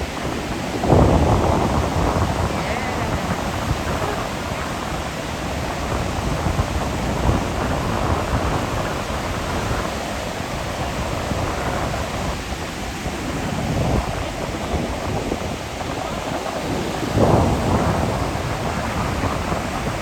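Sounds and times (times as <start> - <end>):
heavy ocean waves breaking: 0.0 - 20.0.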